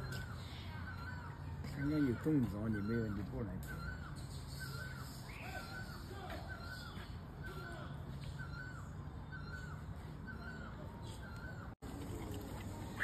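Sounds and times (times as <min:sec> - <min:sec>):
bird calling: 0:00.0 - 0:13.0.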